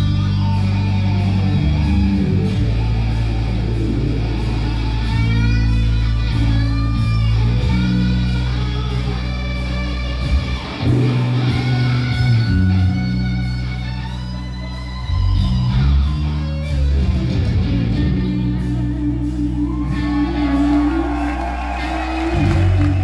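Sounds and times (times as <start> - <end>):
bass and keyboards: 0.0 - 23.0
electric guitar solo: 0.0 - 23.0.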